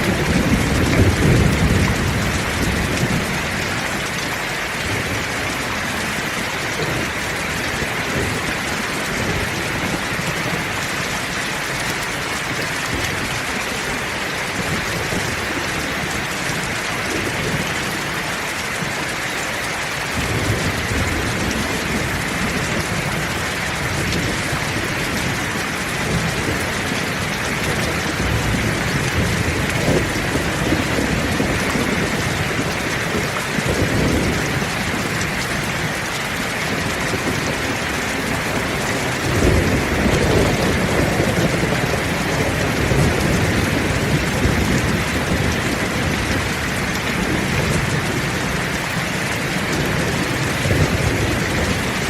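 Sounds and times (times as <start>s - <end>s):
low rolling thunder: 0.0s - 11.9s, 20.1s - 52.0s
heavy rain hissing: 0.0s - 52.0s.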